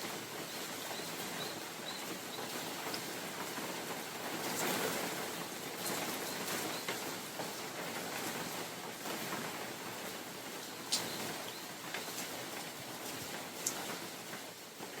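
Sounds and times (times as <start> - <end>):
rain falling on forest: 0.0 - 15.0
wind gust through trees: 0.0 - 15.0.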